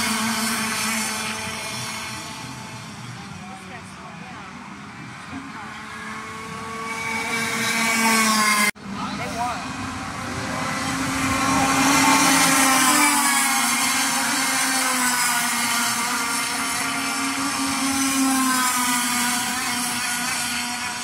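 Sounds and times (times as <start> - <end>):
go-kart engines whining: 0.0 - 21.0.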